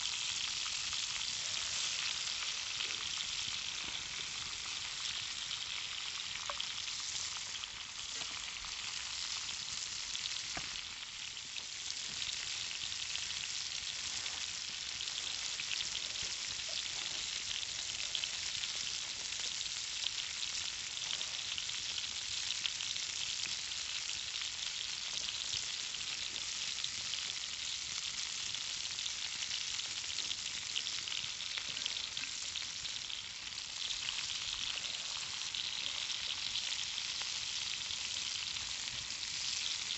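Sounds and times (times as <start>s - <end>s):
sausages sizzling in a pan: 0.0s - 39.9s.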